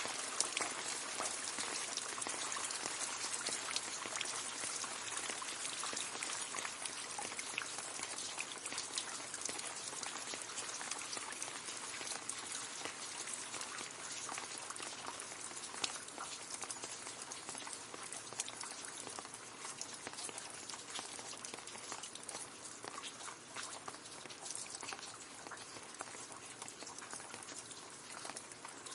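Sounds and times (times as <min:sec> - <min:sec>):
rain pattering on leaves: 0:00.0 - 0:28.9
water drips ticking: 0:00.0 - 0:28.9.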